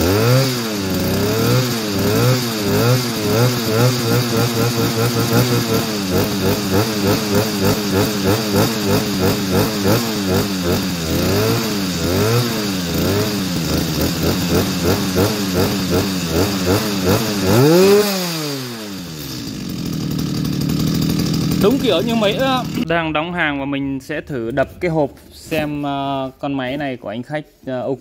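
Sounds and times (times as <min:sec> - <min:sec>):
chainsaw engine revving: 0:00.0 - 0:23.1.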